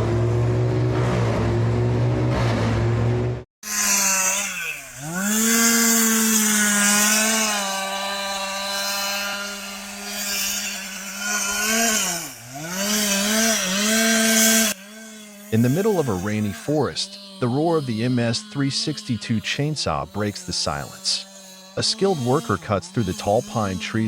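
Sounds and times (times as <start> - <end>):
chainsaw cutting wood: 3.6 - 24.0.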